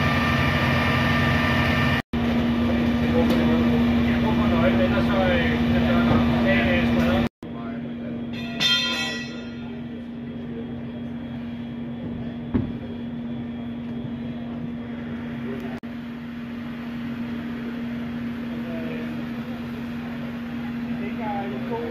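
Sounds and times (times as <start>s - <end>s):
machine drone with low hum: 0.0s - 21.9s.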